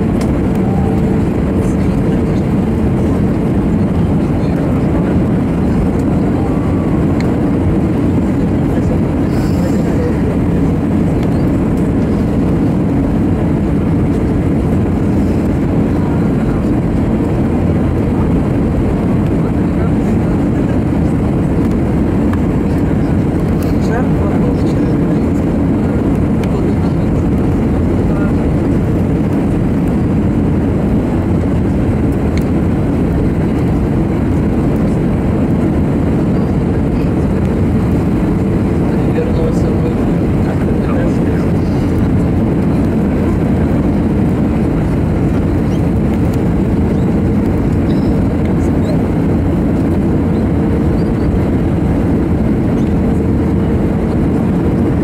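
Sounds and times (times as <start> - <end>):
jet engines humming: 0.0 - 55.0
low rush of airflow: 0.0 - 55.0.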